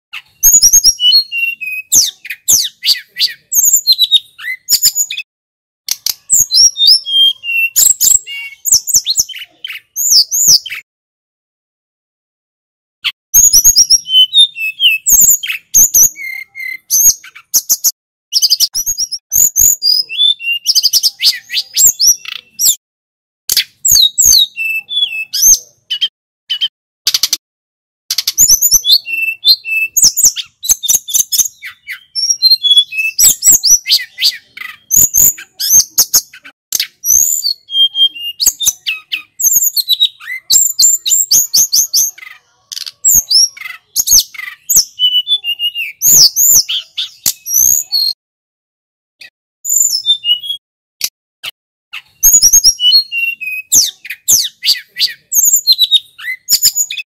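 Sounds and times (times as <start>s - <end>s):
bird singing warbling phrases: 0.2s - 5.3s, 5.9s - 10.9s, 13.0s - 22.8s, 23.5s - 27.4s, 28.1s - 48.2s, 49.2s - 50.6s, 51.4s - 57.0s.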